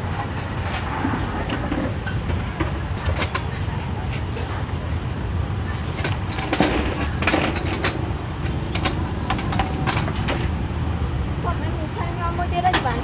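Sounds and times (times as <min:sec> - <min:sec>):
low rumble of market: 0:00.0 - 0:13.0.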